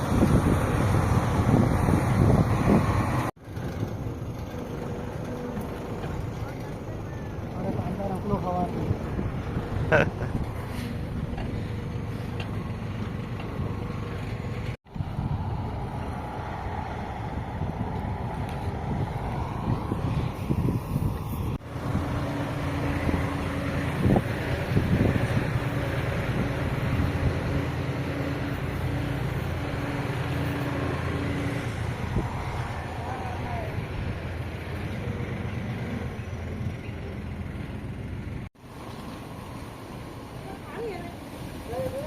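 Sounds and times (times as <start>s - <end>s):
wind buffeting microphone: 0.0s - 37.1s
tractor diesel engine running: 0.0s - 38.5s.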